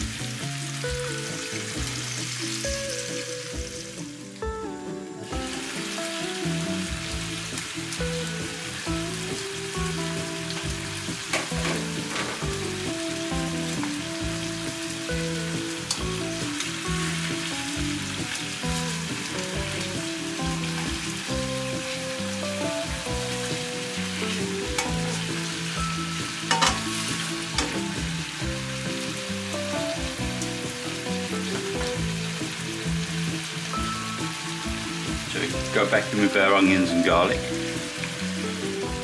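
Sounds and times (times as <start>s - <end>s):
background music with a beat: 0.0s - 39.0s
chicken sizzling in a pan: 0.0s - 39.0s.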